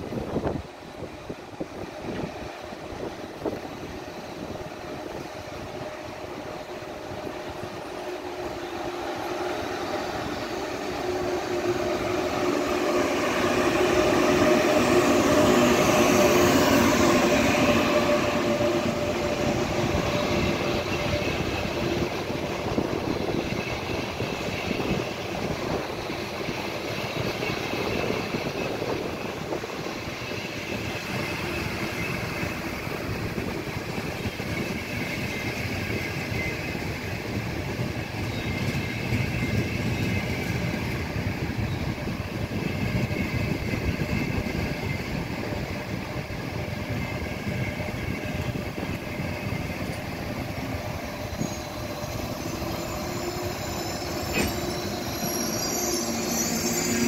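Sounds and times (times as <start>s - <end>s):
electric train passing: 0.0s - 57.0s
train whine over rumble: 0.0s - 57.0s.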